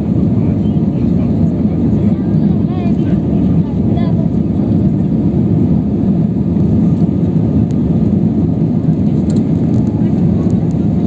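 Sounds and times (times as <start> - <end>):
airplane cabin engine rush: 0.0 - 11.0.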